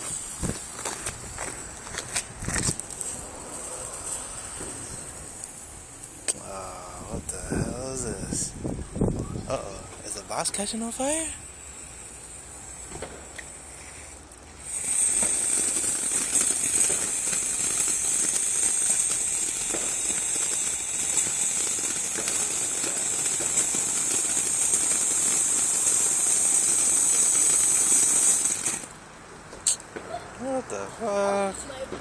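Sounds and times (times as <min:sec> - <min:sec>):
firework fountain hissing: 0:00.0 - 0:32.0
firework fuse burning: 0:00.0 - 0:32.0.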